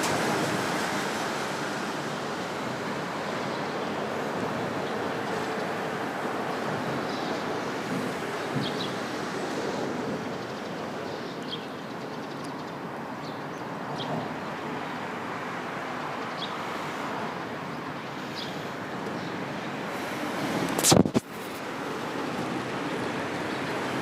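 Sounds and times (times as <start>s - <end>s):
rushing background noise: 0.0s - 24.0s.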